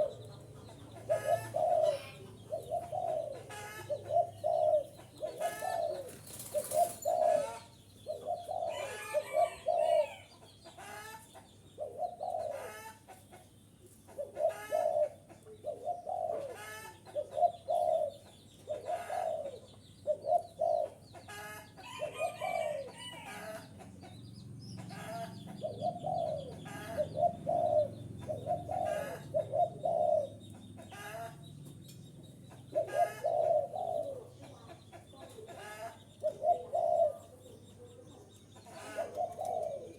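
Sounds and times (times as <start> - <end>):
dove cooing: 0.0 - 10.3, 10.9 - 13.1, 14.1 - 23.8, 24.8 - 31.4, 32.5 - 39.9.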